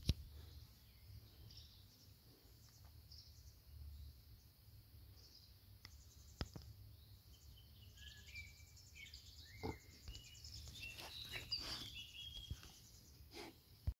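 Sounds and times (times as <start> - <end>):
small birds chirping faintly: 0.0 - 13.9.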